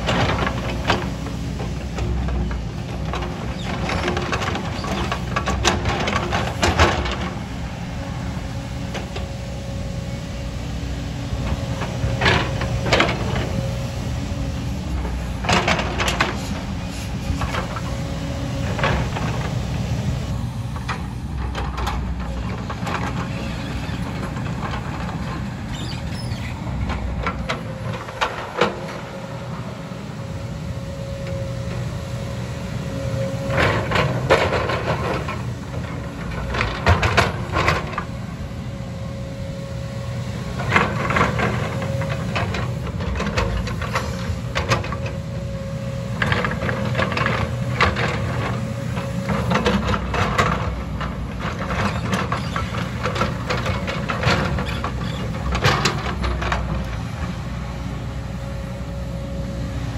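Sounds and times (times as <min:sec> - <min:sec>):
excavator diesel engine whining: 0:00.0 - 0:59.9.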